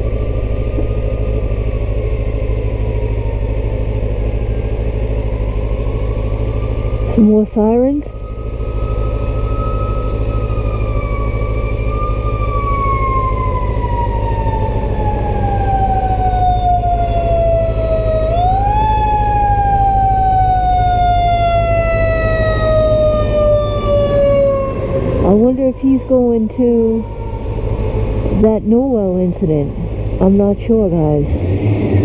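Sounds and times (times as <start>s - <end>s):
fire engine siren wailing: 0.0s - 31.3s
low engine rumble: 0.0s - 32.0s.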